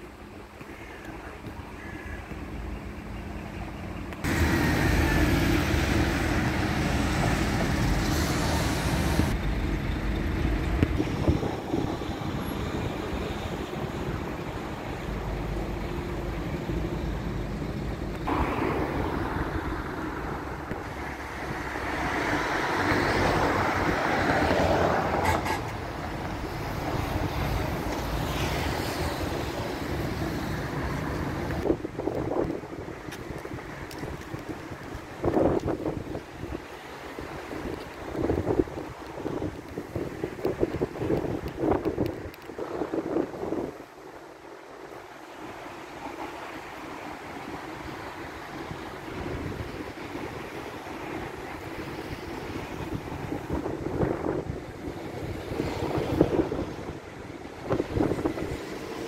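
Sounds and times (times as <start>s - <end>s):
cars passing close by: 1.4s - 59.0s.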